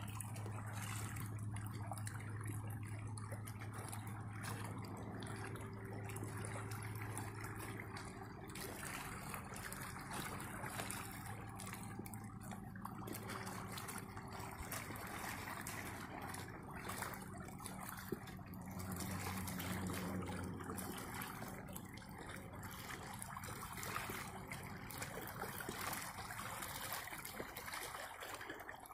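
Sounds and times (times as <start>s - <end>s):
low steady hum: 0.0s - 28.9s
river water lapping: 0.0s - 28.9s.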